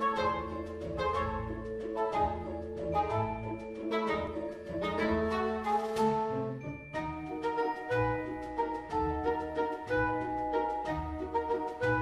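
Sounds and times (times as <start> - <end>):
orchestral music: 0.0 - 12.0.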